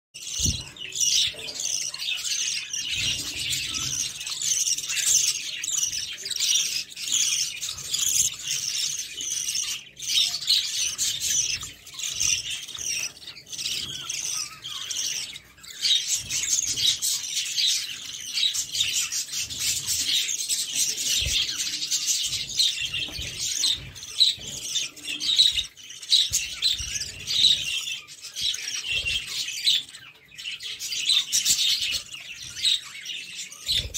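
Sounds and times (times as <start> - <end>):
parrot chicks chirping: 0.2 - 33.9.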